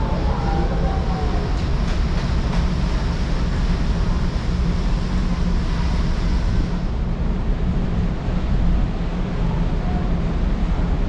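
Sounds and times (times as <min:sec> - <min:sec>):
ship engine drone: 0:00.0 - 0:11.0.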